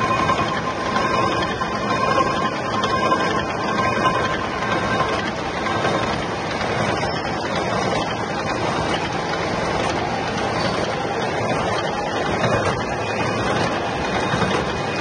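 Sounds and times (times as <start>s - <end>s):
gear hobbing machine cutting: 0.0s - 15.0s.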